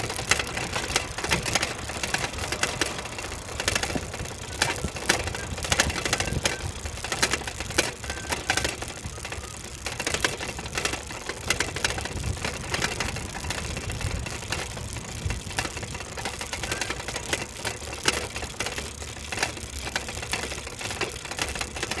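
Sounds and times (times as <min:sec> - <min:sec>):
wheel rattling over paving stones: 0:00.0 - 0:22.0.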